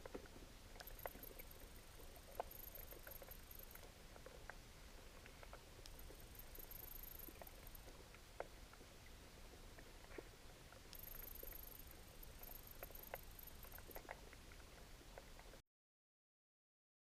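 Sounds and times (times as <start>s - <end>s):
faint high-pitched whine: 0.0s - 15.6s
faint underwater clicks: 0.0s - 15.6s.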